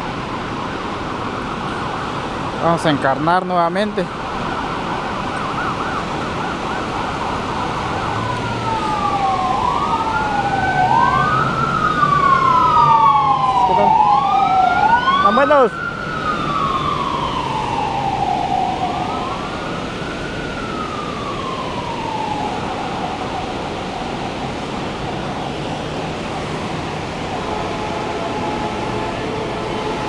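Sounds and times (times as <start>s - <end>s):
emergency siren wailing: 0.0s - 30.0s
steady rushing background noise: 0.0s - 30.0s.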